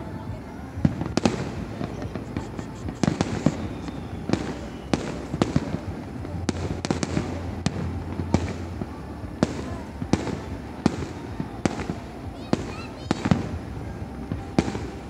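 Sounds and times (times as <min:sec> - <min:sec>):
fireworks bangs: 0:00.0 - 0:15.0
steady low rumble: 0:00.0 - 0:15.0.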